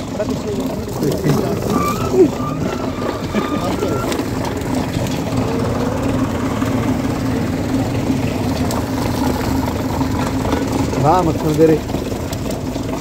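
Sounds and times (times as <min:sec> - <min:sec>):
crusher machine droning: 0:00.0 - 0:13.0.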